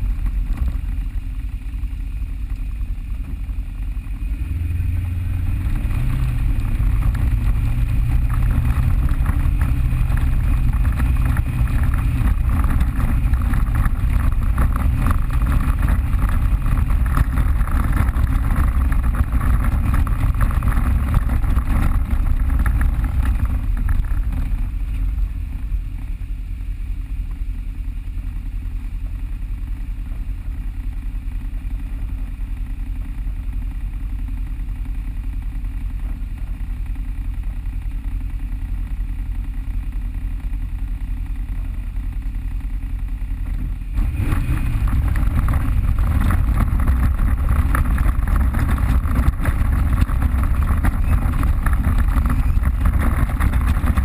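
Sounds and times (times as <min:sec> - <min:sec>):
off-road vehicle engine rumbling: 0:00.0 - 0:54.0.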